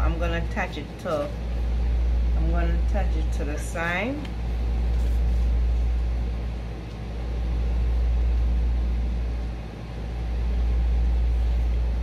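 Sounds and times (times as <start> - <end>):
low mechanical hum with air hiss: 0.0 - 12.0.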